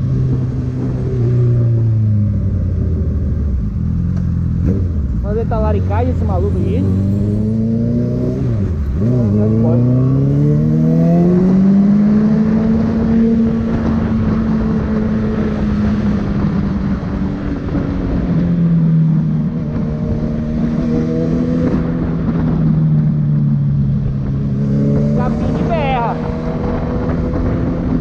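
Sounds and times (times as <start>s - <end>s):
motorcycle engine revving: 0.0s - 28.0s
wind noise on microphone: 0.0s - 28.0s.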